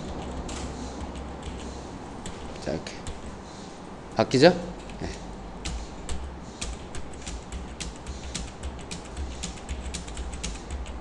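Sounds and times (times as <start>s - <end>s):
keyboard keys clicking: 0.0s - 3.4s, 4.8s - 11.0s.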